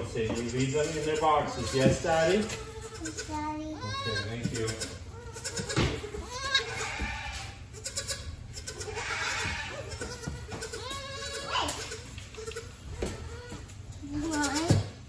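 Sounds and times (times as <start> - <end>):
baby goats bleating: 0.0 - 15.0.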